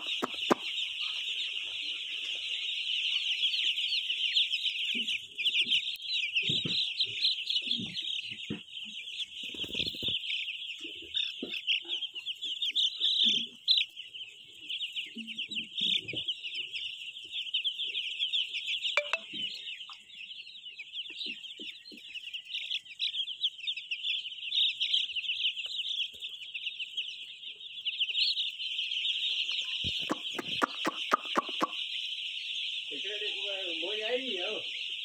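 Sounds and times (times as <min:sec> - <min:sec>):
baby chicks peeping: 0:00.0 - 0:35.0.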